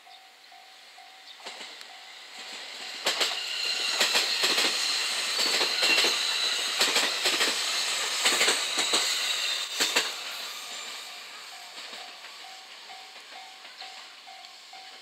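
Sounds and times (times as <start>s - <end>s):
high train whine: 0.0s - 15.0s
train wheels clicking over rail joints: 1.3s - 15.0s.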